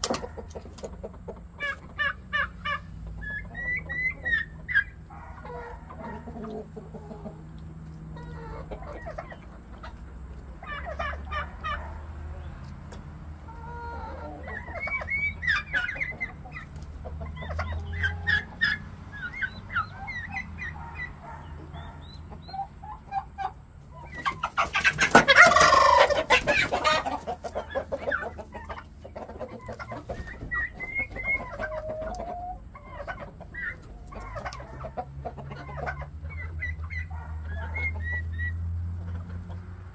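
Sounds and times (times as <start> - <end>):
chickens and turkeys clucking: 0.0 - 39.9.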